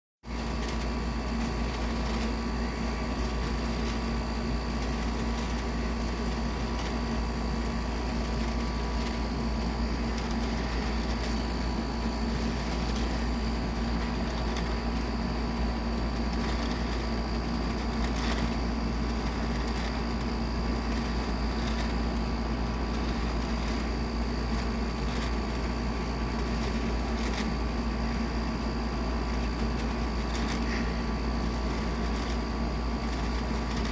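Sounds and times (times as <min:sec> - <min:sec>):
air conditioner humming: 0:00.2 - 0:33.9.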